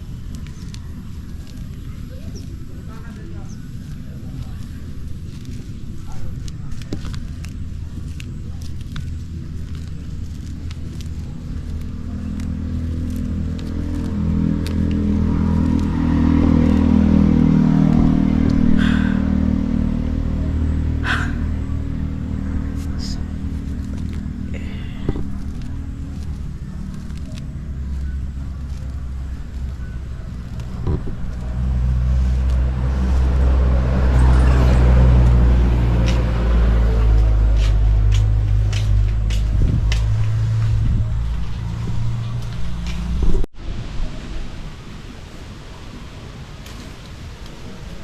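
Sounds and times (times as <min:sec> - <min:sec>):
vehicle engine humming: 0:00.0 - 0:48.0.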